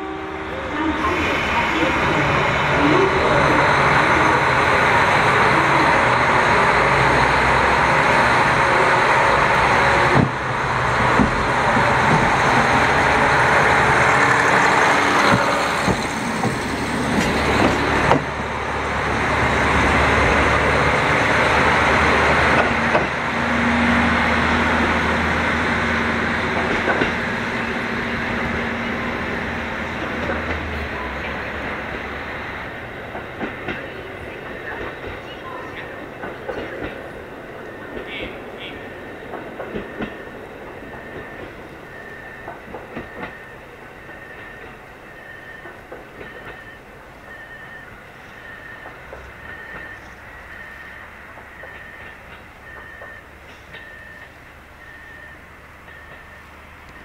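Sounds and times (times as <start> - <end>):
diesel railcar engine running: 0.0 - 57.0.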